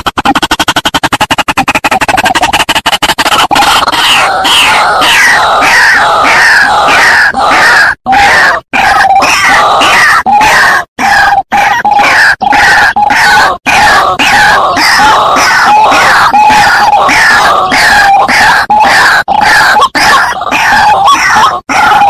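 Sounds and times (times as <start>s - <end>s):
waterhen harsh croaking calls: 0.0s - 22.0s.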